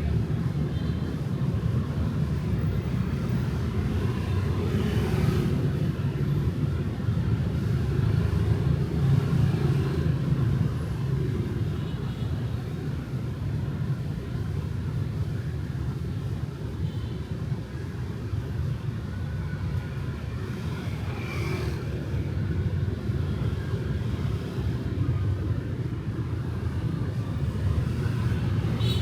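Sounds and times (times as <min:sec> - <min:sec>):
motorbikes and cars passing: 0:00.0 - 0:16.6, 0:17.7 - 0:29.0.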